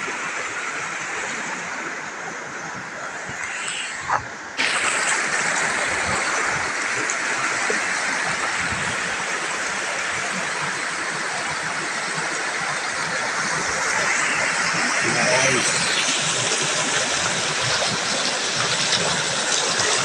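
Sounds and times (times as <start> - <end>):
river rushing over stones: 0.0 - 20.0.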